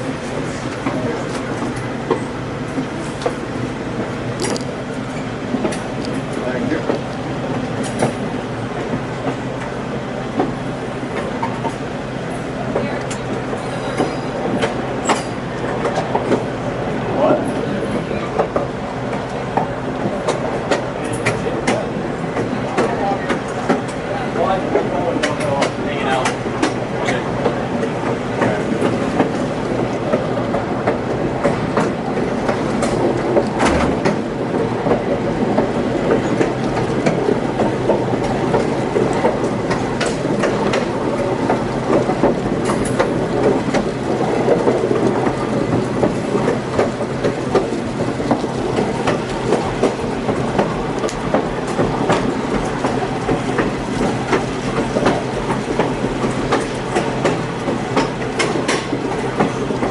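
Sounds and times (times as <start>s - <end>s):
train car rumbling on track: 0.0s - 59.9s
wheels clicking over rail joints: 0.2s - 16.5s, 17.2s - 59.9s.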